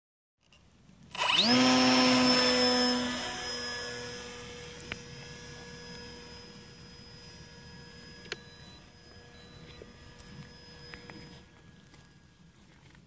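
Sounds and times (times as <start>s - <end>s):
electric motor propeller whine: 1.1s - 13.0s.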